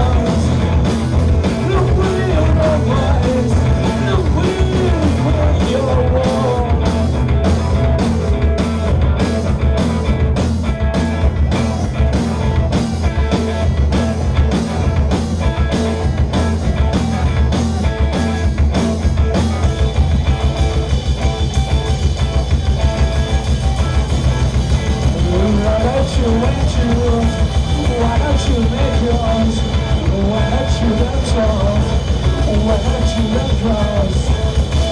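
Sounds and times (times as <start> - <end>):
drum kit beat: 0.0 - 34.9
rock band playing: 0.0 - 34.9.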